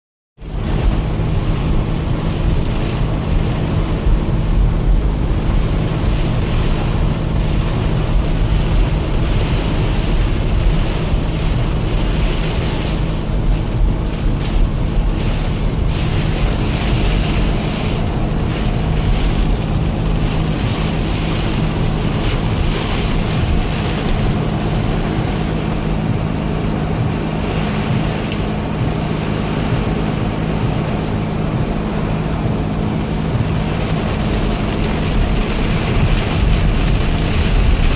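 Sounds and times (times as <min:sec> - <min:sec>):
car engine and road hum: 0:00.4 - 0:37.9
heavy rain: 0:00.4 - 0:37.9
water rushing: 0:00.4 - 0:37.9.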